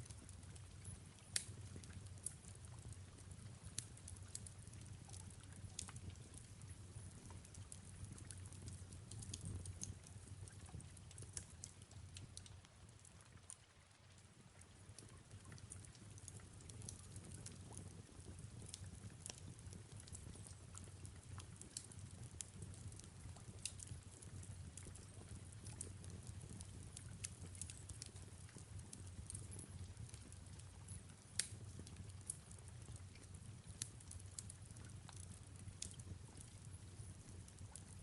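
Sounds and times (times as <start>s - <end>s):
fireplace crackling: 0.0s - 38.0s
soft rain falling: 0.0s - 38.0s.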